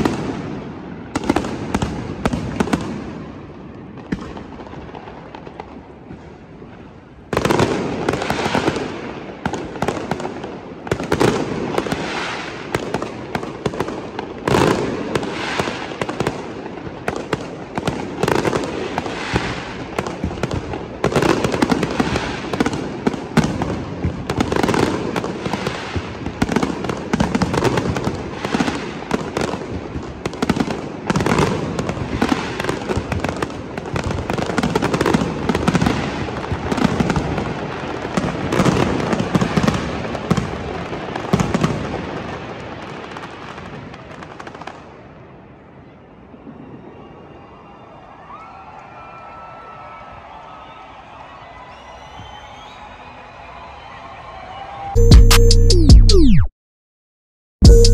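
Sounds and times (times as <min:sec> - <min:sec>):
fireworks bangs and crackles: 0:00.0 - 0:47.8.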